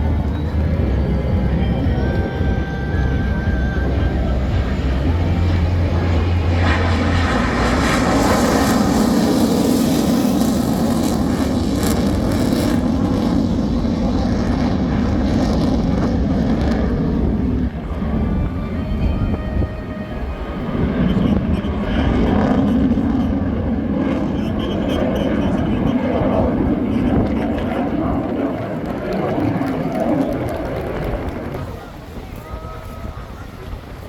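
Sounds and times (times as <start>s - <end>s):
jet passing: 0.0s - 32.4s.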